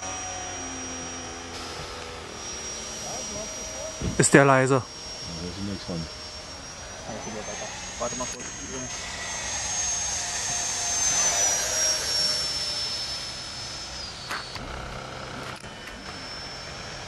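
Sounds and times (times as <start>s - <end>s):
electric ducted fan whining: 0.0s - 17.0s.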